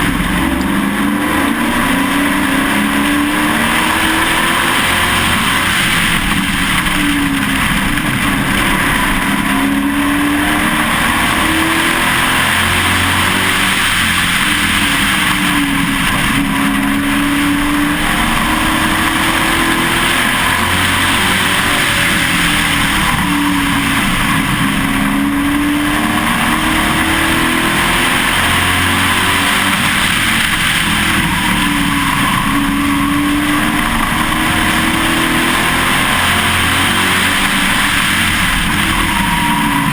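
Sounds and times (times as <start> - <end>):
race truck engine: 0.0 - 39.9
road noise: 0.0 - 39.9
wind noise: 0.0 - 39.9.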